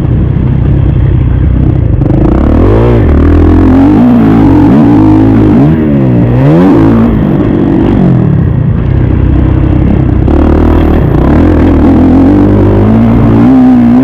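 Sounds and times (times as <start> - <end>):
motocross bike engine revving: 1.6 - 14.0.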